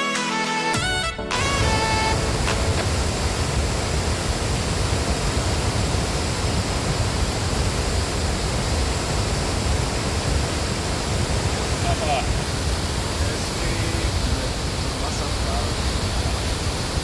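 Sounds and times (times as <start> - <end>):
waterfall rushing: 1.4 - 17.0.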